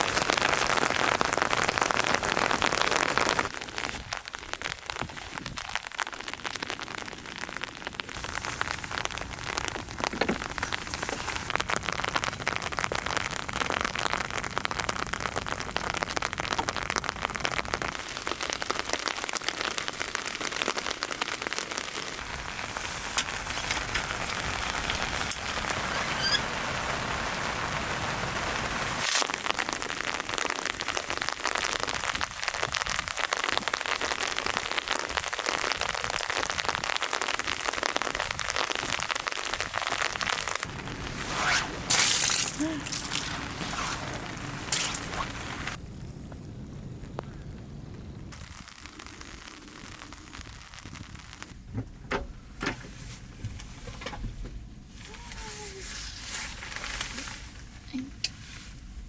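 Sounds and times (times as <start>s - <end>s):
heavy rain pattering: 0.0s - 51.8s, 53.3s - 59.0s.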